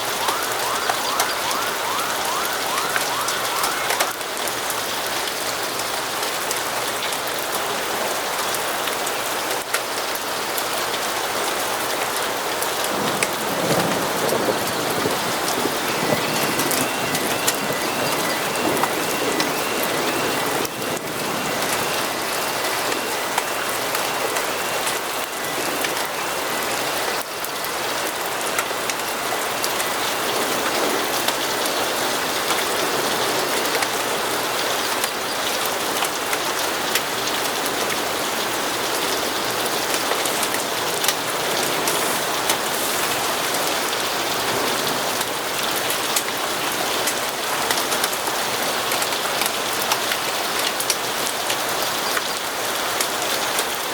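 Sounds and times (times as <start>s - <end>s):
rain on a hard surface: 0.0s - 53.9s.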